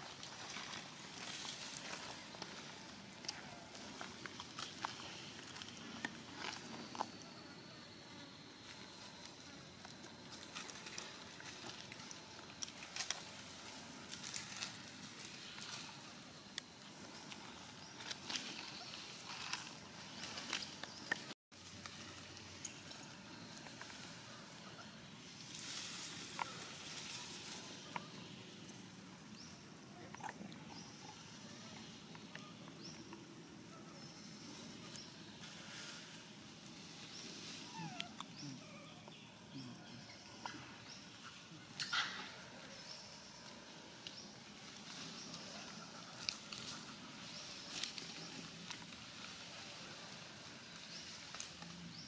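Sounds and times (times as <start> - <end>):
monkeys rustling in dry leaves: 0.0 - 7.1, 8.6 - 29.6, 30.6 - 52.0.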